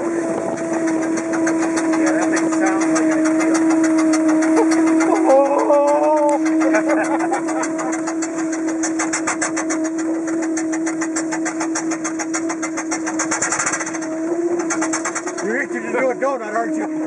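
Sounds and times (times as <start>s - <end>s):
steady hum: 0.0s - 17.0s
steam engine chuffing: 0.0s - 17.0s.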